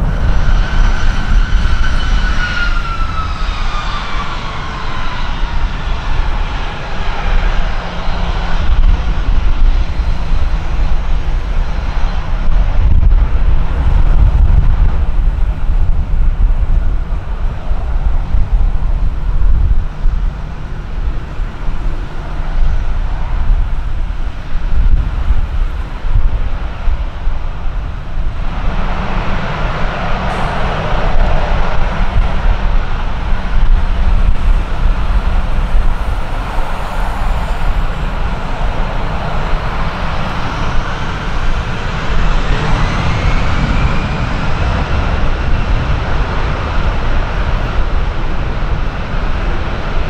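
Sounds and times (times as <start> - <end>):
jet engine whine: 0.0 - 50.0
low engine rumble: 0.0 - 50.0
wind buffeting microphone: 0.0 - 50.0.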